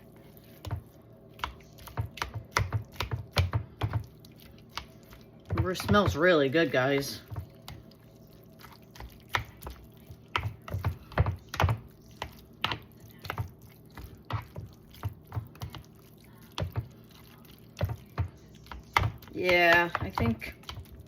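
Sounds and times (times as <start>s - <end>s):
wet stirring sounds: 0.0s - 21.0s.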